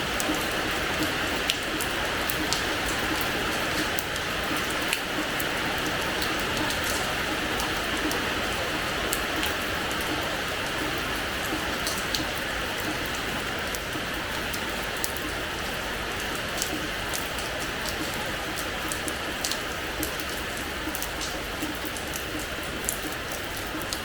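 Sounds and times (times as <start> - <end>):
rain on a hard floor: 0.0 - 24.0.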